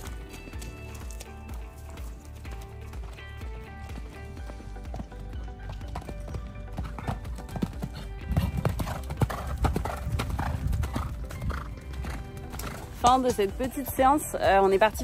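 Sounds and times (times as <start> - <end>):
background music: 0.0 - 15.0
horse hoofbeats on sand: 0.0 - 15.0.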